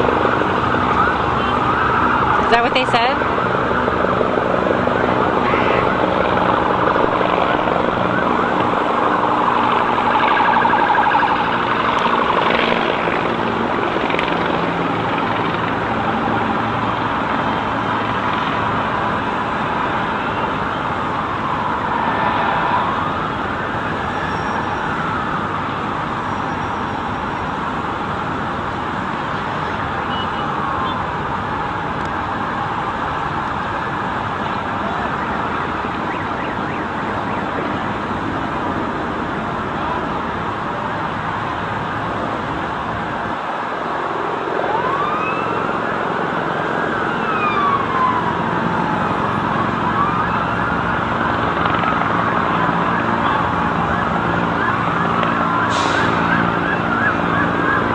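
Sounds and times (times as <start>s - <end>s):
emergency siren wailing: 0.0s - 57.9s
street noise rumble: 0.0s - 57.9s.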